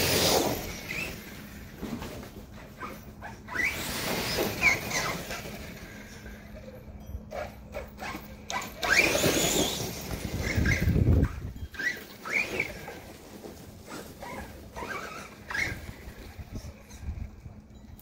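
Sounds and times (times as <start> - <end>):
electric motor whining: 0.0 - 1.9, 2.5 - 17.7
tyres and drivetrain noise: 0.0 - 18.0.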